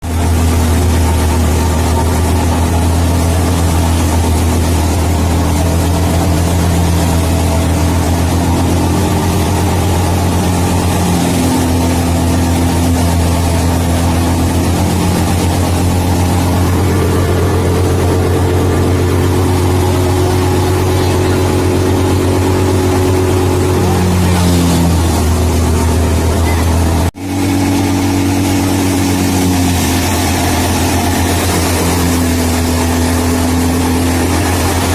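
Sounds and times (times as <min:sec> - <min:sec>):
thresher engine deep hum: 0:00.0 - 0:34.9.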